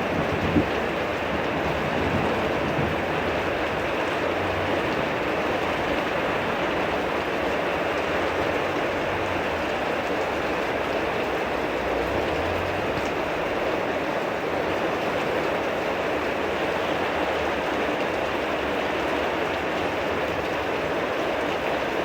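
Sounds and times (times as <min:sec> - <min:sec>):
heavy rain downpour: 0:00.0 - 0:22.0.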